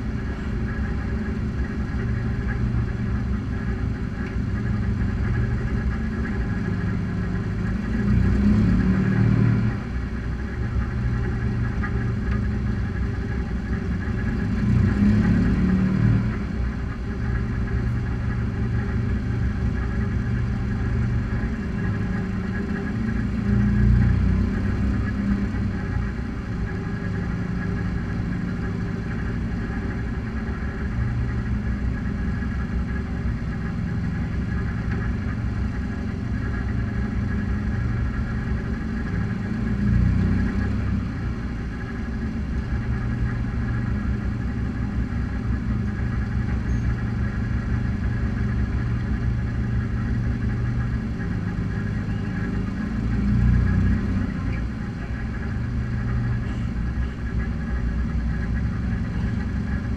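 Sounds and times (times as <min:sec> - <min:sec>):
race car engines idling: 0:00.0 - 0:59.9.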